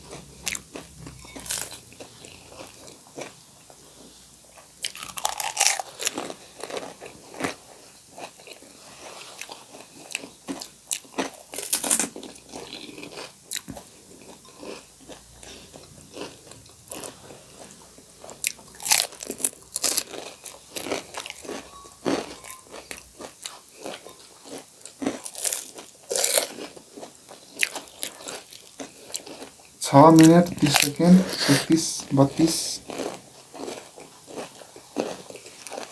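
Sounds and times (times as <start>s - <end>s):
crunchy food being chewed: 0.0s - 29.8s, 32.2s - 35.9s.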